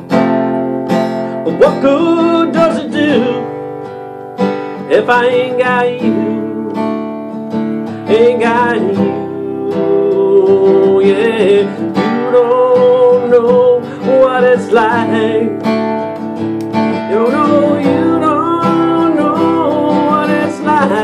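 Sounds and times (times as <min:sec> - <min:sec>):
acoustic guitar strumming: 0:00.0 - 0:21.0
man singing: 0:01.3 - 0:03.7, 0:04.7 - 0:21.0.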